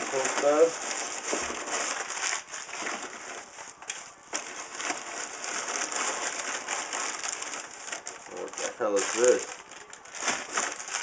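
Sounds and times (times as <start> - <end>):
paper and bubble wrap crinkling: 0.0 - 11.0.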